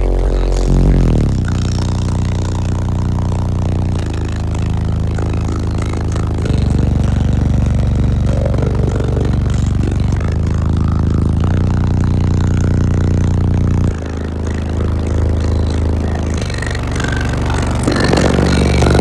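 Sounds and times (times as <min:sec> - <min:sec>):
loud deep bass from subwoofers: 0:00.0 - 0:19.0.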